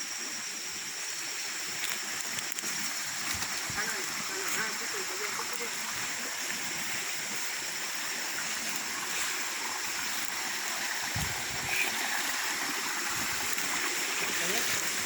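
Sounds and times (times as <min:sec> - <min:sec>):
high outdoor hiss: 0:00.0 - 0:15.0.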